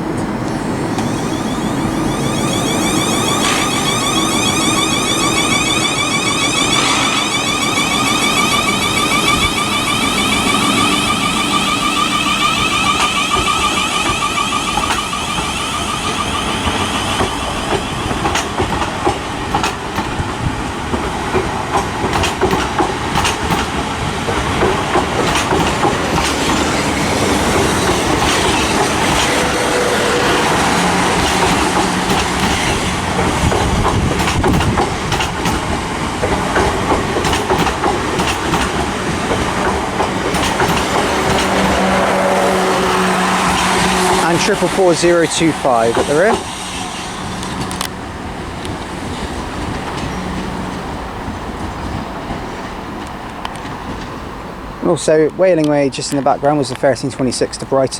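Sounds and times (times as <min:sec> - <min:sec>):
electric train motor whine: 0:00.0 - 0:52.0
train coaches rumbling past: 0:00.0 - 0:57.9
wheels clicking over rail joints: 0:00.0 - 0:57.9.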